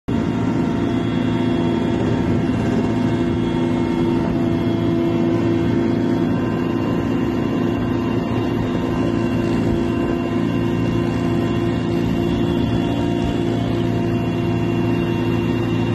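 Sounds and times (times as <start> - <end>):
helicopter engine and rotor: 0.1 - 15.9
steady whine: 0.1 - 15.9.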